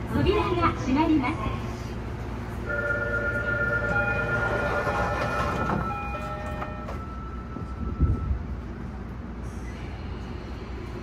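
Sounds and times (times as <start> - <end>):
stopped subway train humming: 0.0 - 11.0.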